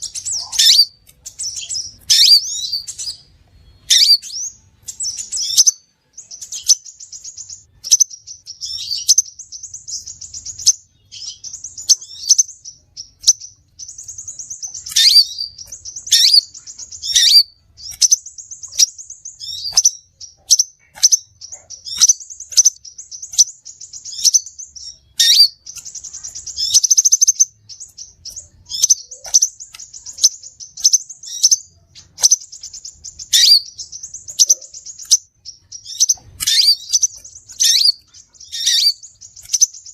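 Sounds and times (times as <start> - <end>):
bird trills and chirps: 0.0 - 39.9.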